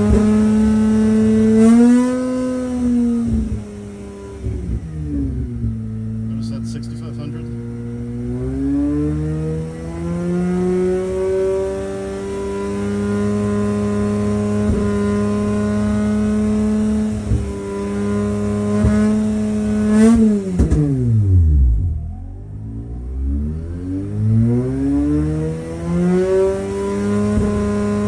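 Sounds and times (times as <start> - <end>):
rotary engine revving: 0.0 - 28.0.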